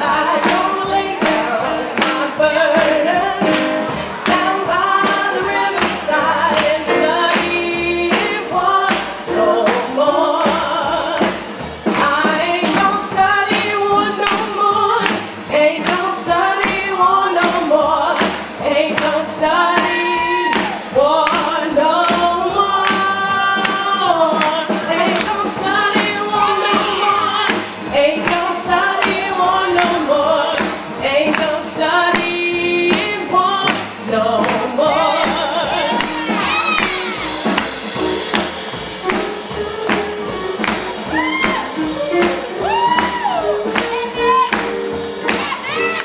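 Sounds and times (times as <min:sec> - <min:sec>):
live band playing: 0:00.0 - 0:46.0
person singing: 0:00.0 - 0:46.0.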